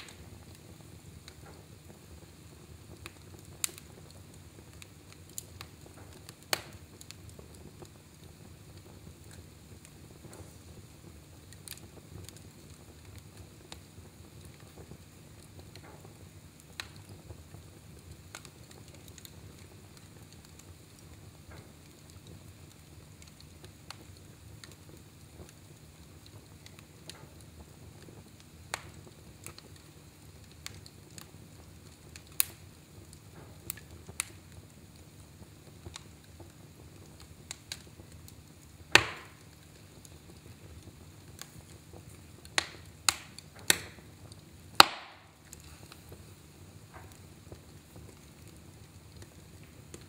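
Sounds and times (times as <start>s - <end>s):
fire crackling in fireplace: 0.0s - 50.0s.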